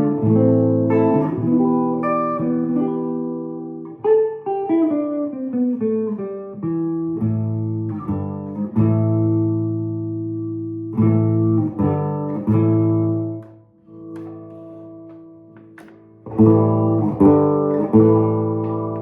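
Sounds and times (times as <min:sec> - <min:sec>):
descending guitar notes: 0:00.0 - 0:19.0
electric guitar chords ringing: 0:00.0 - 0:19.0.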